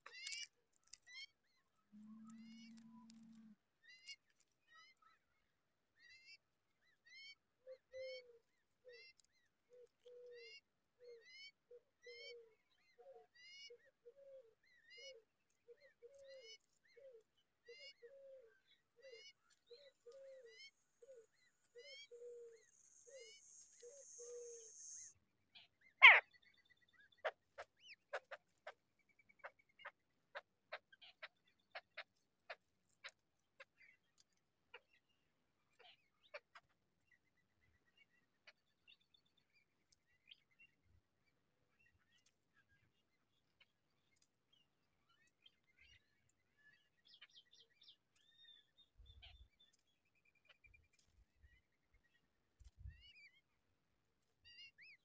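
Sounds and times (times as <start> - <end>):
faint bird chirps: 0.0 - 5.4, 6.0 - 53.6.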